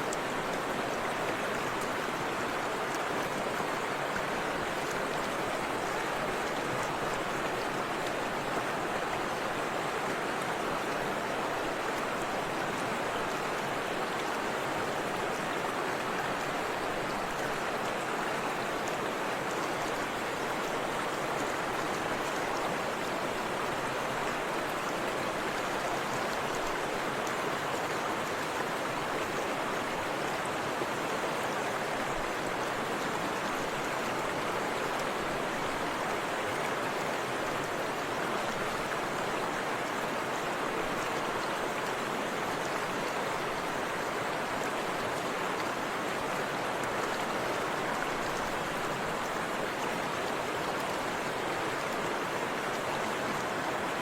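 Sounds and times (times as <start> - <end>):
river water splashing over waterfall: 0.0 - 54.0.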